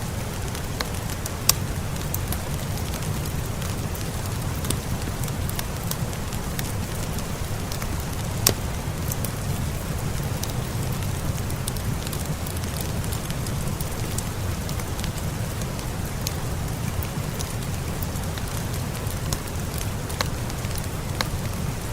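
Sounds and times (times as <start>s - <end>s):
steady rain: 0.0s - 21.9s
fire crackling and popping: 0.1s - 21.9s.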